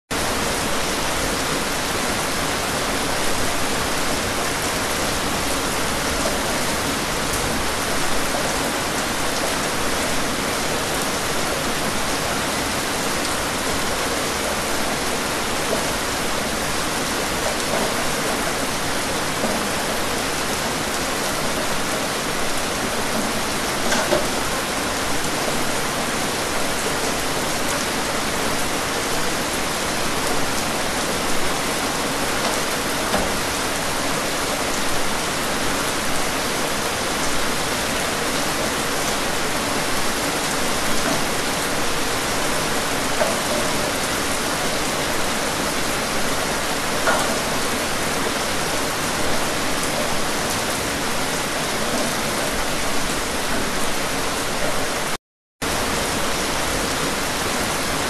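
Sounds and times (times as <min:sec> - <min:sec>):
louder raindrops: 0:00.1 - 0:58.0
rain falling on foliage: 0:00.1 - 0:58.0.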